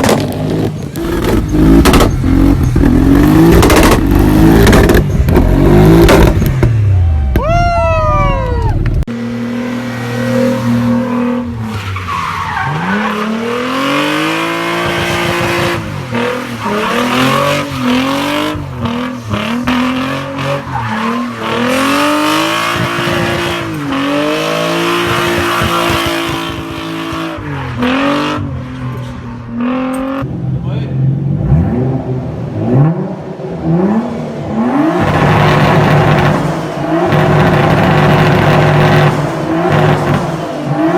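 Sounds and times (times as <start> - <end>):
car engine revving: 0.0 - 7.2, 8.6 - 40.9.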